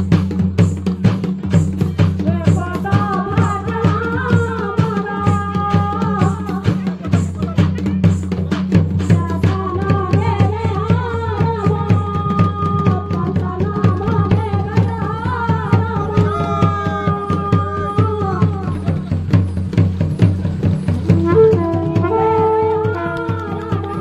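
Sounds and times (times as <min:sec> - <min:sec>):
fast steady drumbeat: 0:00.0 - 0:24.0.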